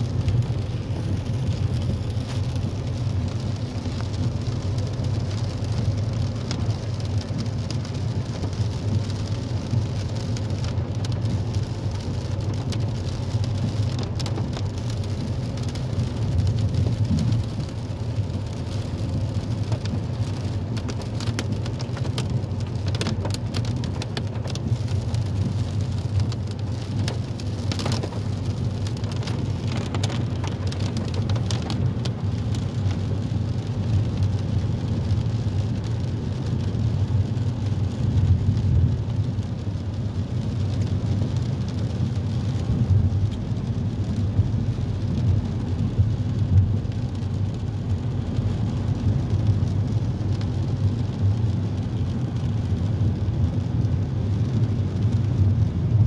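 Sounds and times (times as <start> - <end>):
car road rumble: 0.0 - 56.0
rain hissing: 0.0 - 56.0
raindrops ticking on roof: 0.0 - 56.0.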